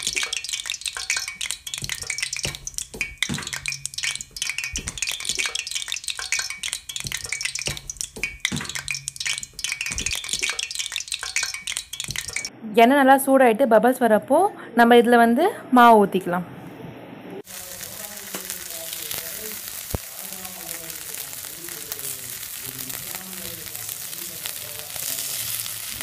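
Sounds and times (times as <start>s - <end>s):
oil crackling and sizzling: 0.0s - 12.5s, 17.4s - 26.0s.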